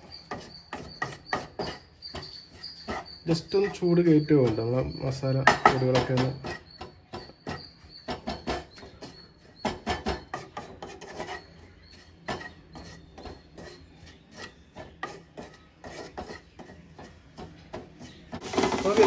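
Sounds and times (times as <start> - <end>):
spatula scraping a pan: 0.0 - 19.0.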